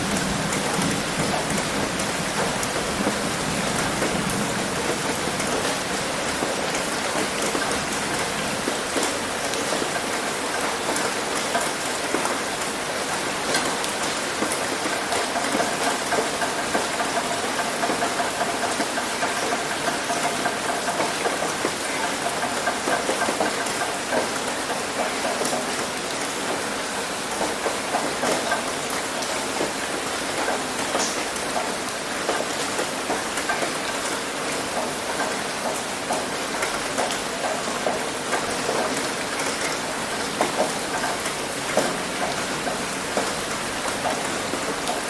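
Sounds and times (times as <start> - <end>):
heavy rain on a roof: 0.0 - 45.0.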